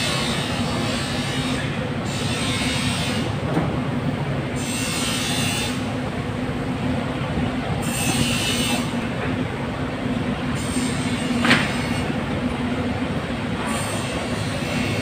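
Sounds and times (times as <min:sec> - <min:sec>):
machinery rumbling and humming: 0:00.0 - 0:15.0.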